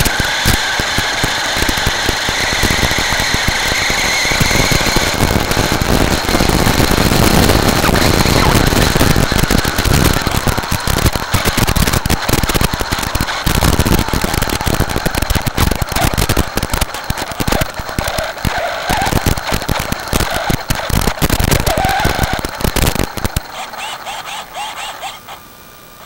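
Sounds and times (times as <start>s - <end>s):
faint wavering whine: 0.0s - 26.0s
rc truck crackling over gravel: 0.0s - 26.0s.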